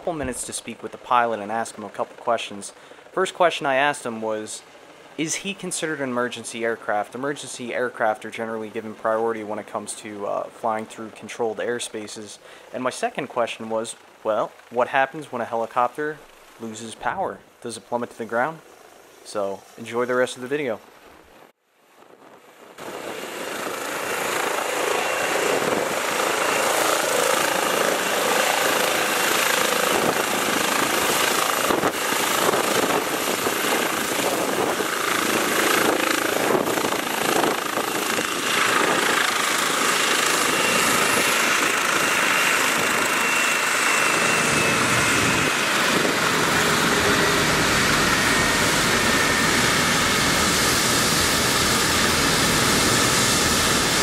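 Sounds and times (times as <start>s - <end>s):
helicopter rotor and turbine: 0.0s - 10.1s, 18.5s - 54.0s.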